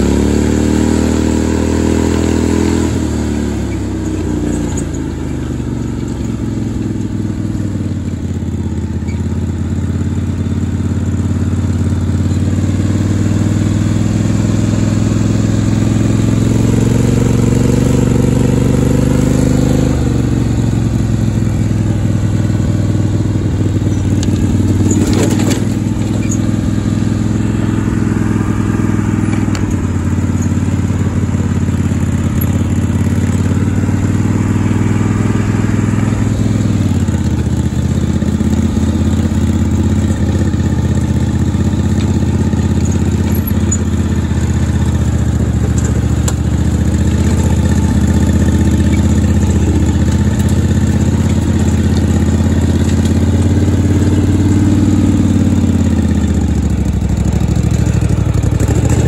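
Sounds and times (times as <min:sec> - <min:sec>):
lawn tractor engine running: 0:00.0 - 0:59.0.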